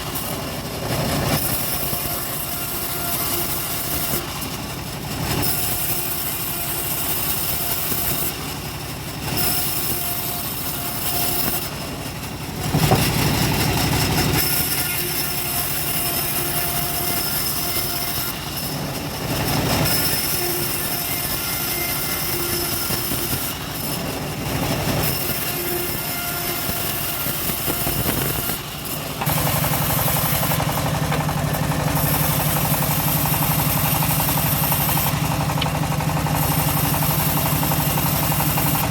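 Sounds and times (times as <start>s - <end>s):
engine-driven bandsaw mill sawing wood: 0.0s - 38.9s.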